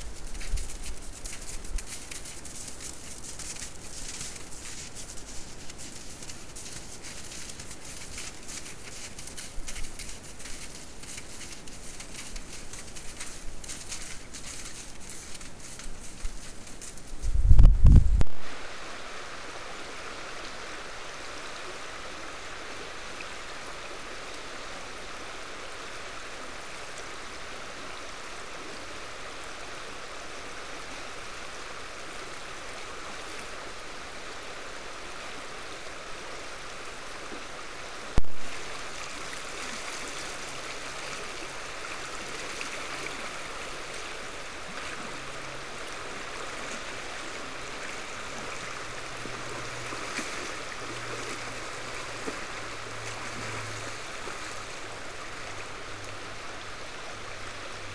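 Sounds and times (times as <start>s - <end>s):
stream water rushing: 0.0s - 17.2s, 18.3s - 57.9s.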